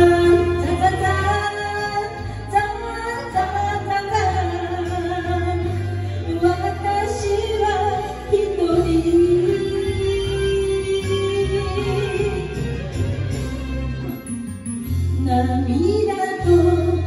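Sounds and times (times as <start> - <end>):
woman singing into a microphone: 0.0 - 13.0, 15.2 - 17.0
karaoke backing track: 0.0 - 17.0.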